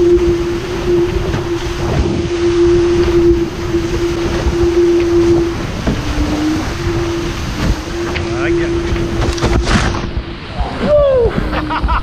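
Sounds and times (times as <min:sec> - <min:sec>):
rushing water: 0:00.0 - 0:12.0
steady humming tone: 0:00.0 - 0:12.0
wind: 0:00.0 - 0:12.0.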